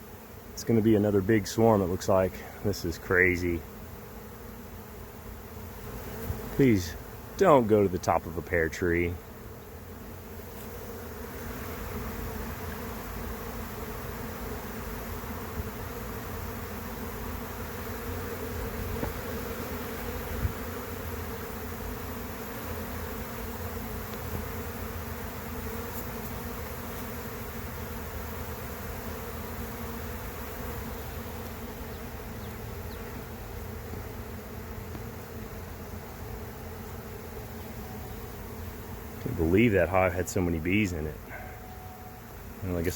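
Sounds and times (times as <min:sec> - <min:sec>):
bee swarm buzzing: 0:00.0 - 0:42.9.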